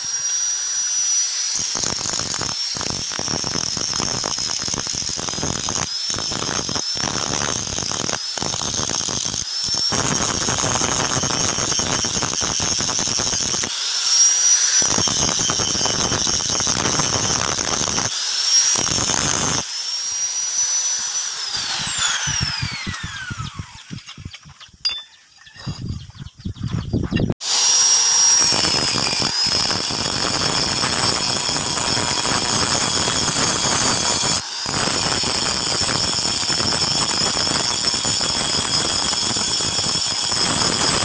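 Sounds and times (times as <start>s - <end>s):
angle grinder grinding steel: 0.0s - 25.6s, 27.4s - 41.0s
grinder spinning down: 0.0s - 25.6s, 27.4s - 41.0s.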